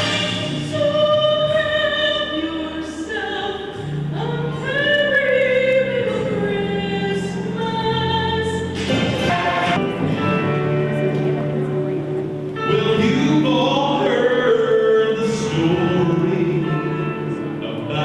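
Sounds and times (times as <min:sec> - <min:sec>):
low accompaniment: 0:00.0 - 0:18.0.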